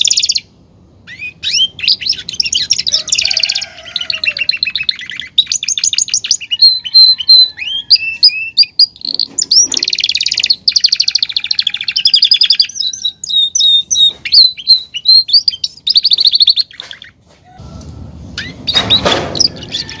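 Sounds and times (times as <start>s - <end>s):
canary singing trills and whistles: 0.0s - 17.2s, 18.3s - 20.0s.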